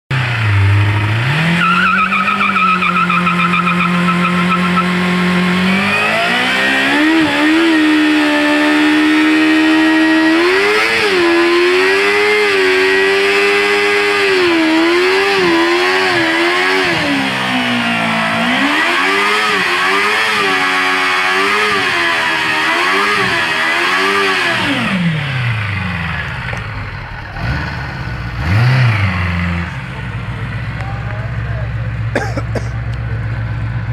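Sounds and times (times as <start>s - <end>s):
motorcycle engine revving hard: 0.1s - 30.5s.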